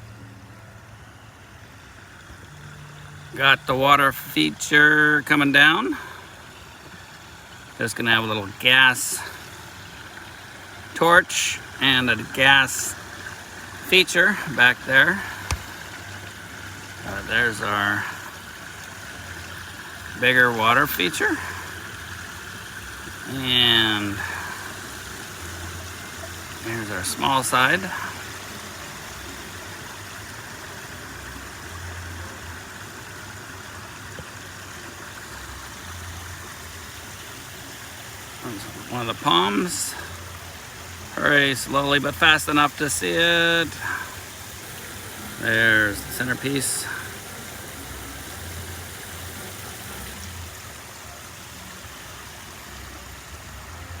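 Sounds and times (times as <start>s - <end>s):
low uneven rumble: 0.0s - 54.0s
water running in a water feature: 0.0s - 54.0s.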